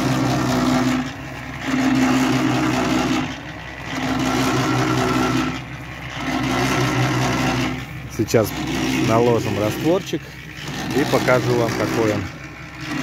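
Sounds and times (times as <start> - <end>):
concrete mixer running: 0.0 - 13.0.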